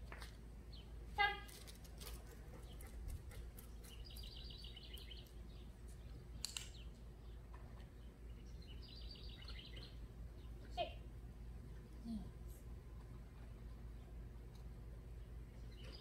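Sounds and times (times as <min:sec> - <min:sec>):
faint low outdoor hum: 0:00.0 - 0:16.0.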